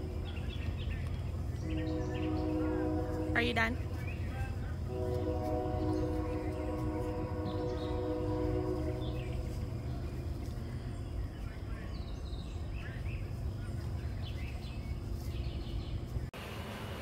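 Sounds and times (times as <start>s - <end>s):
steady low rumble: 0.0s - 16.3s.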